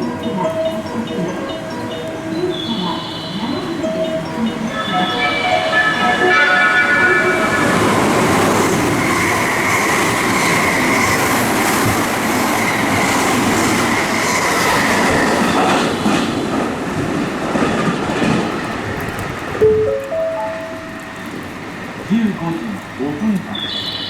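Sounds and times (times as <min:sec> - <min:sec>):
high train whine: 0:00.0 - 0:24.0
rail-joint clicks: 0:00.0 - 0:24.0
train wheels rushing on rails: 0:00.0 - 0:24.0.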